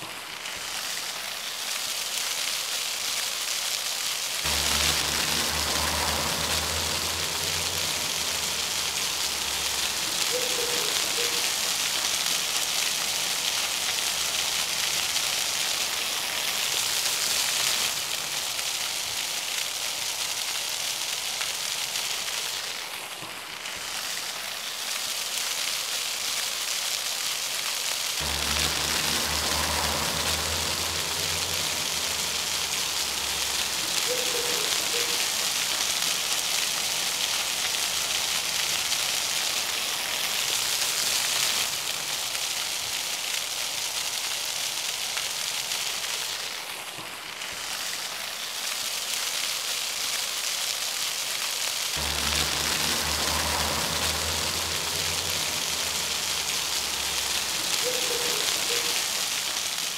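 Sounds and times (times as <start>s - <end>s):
fountain water splashing on paving: 0.0s - 59.9s.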